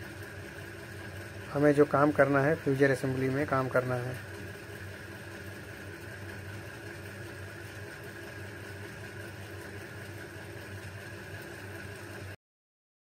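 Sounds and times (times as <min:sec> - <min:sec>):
machine hum: 0:00.0 - 0:12.4.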